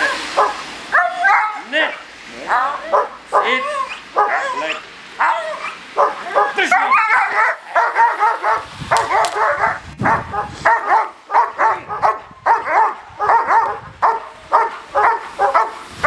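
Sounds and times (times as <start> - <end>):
dog barking rapidly: 0.0 - 16.0.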